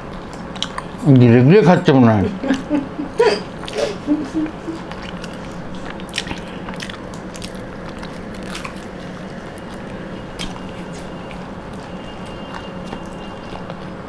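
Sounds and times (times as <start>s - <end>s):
people chewing and biting: 0.0s - 14.0s
small eating clicks: 0.0s - 14.0s.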